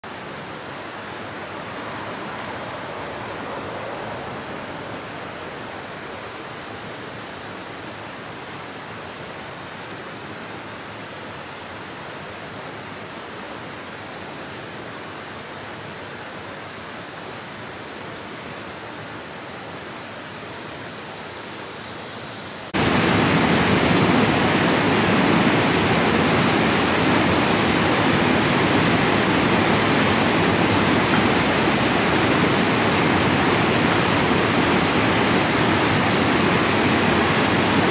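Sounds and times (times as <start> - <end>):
high-pitched hiss: 0.0 - 37.9
river water rushing over rapids: 0.0 - 37.9.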